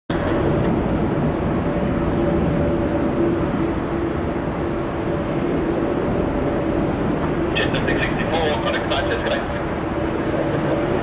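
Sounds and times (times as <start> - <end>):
vehicle running hum: 0.1 - 11.0.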